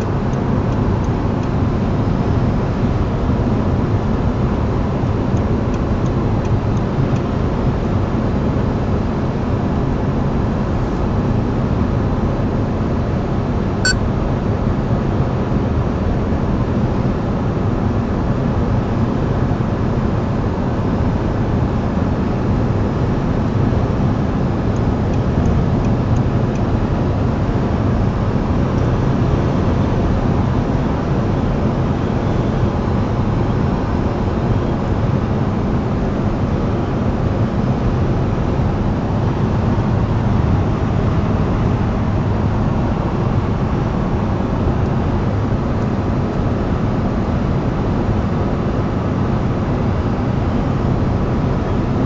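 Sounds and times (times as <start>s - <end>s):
low engine hum: 0.0s - 52.0s
road and wind noise: 0.0s - 52.0s.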